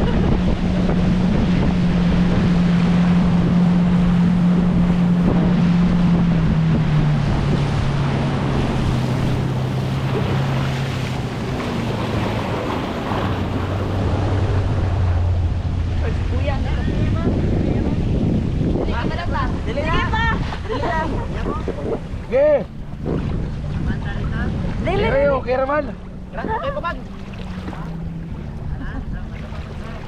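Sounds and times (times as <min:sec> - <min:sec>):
motorboat engine running: 0:00.0 - 0:30.0
rushing water: 0:00.0 - 0:30.0
wind on microphone: 0:00.0 - 0:30.0.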